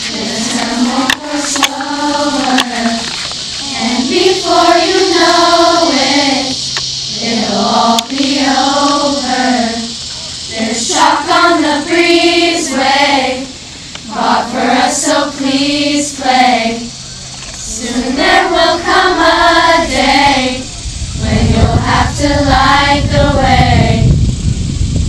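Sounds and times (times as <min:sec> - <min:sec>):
group of girls singing: 0:00.0 - 0:17.0, 0:17.6 - 0:24.1.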